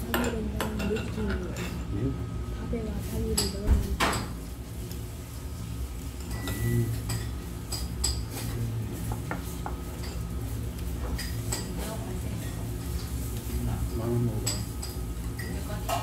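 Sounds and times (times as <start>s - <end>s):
dishes and chopsticks clinking: 0.0s - 1.9s, 3.2s - 4.4s, 6.0s - 16.0s
low room hum: 0.0s - 16.0s.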